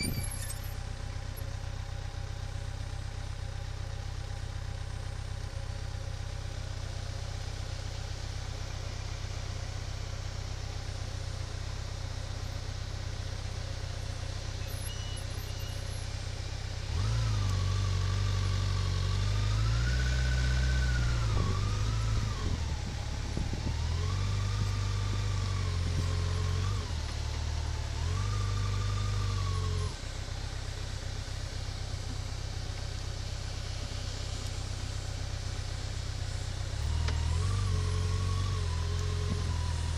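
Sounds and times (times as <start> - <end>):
vehicle engine running and revving: 0.0 - 39.9.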